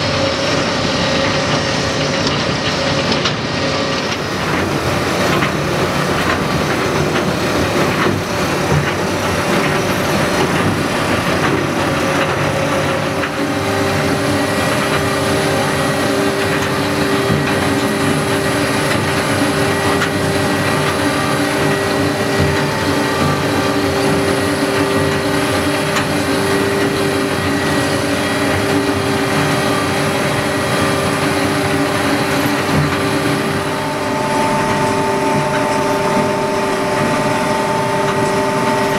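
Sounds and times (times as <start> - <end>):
steady mechanical whine: 0.0 - 38.9
tractor engine running: 0.0 - 38.9.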